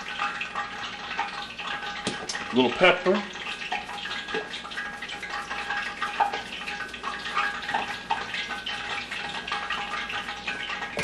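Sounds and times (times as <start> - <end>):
oil popping in a frying pan: 0.0 - 11.0.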